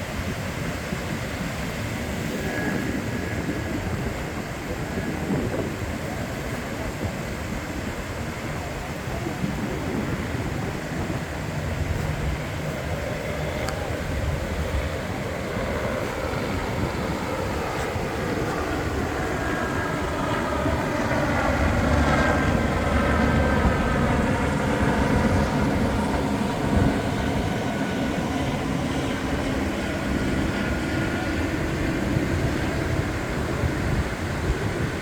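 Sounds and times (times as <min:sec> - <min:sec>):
faint steady whine: 0:00.0 - 0:35.0
ocean surf washing on beach: 0:00.0 - 0:35.0.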